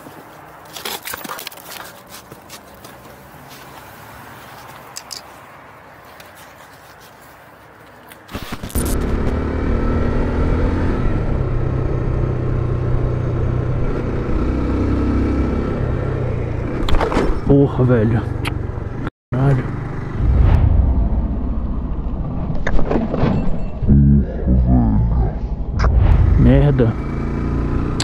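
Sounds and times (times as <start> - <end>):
wind and road rush: 0.0 - 23.8, 25.2 - 28.0.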